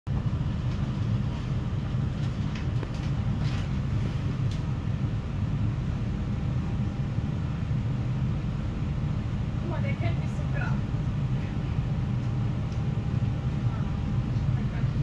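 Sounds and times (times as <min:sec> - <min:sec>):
train running rumble: 0:00.1 - 0:15.0.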